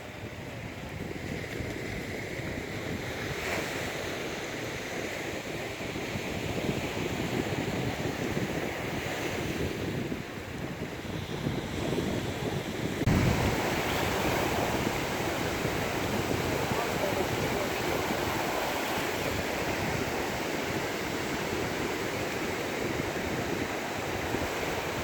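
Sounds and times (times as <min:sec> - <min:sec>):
sea surf washing on shore: 0:00.0 - 0:25.0
wind noise on microphone: 0:00.0 - 0:25.0.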